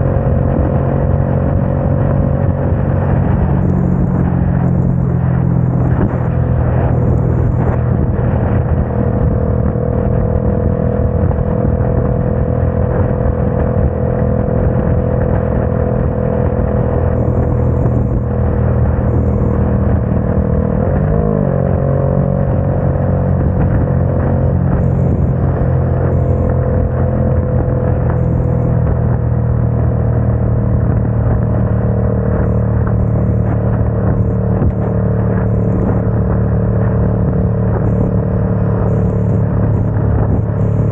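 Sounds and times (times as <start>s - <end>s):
heavy wind noise: 0.0s - 40.9s
motorcycle engine running: 0.0s - 40.9s
tyres on wet road: 0.0s - 40.9s.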